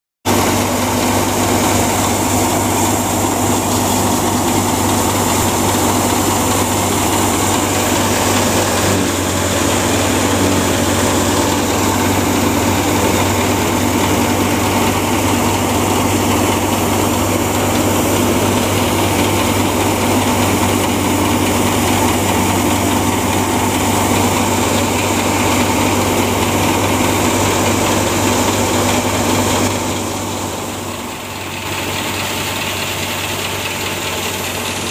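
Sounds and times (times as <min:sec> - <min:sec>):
tractor engine: 0:00.2 - 0:34.9
thresher drum droning: 0:00.3 - 0:34.9.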